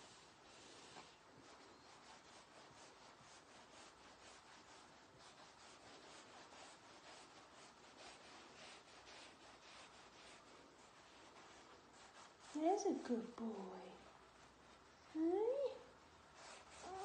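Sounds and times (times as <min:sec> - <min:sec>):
brush swishing through fur: 0:00.0 - 0:17.0.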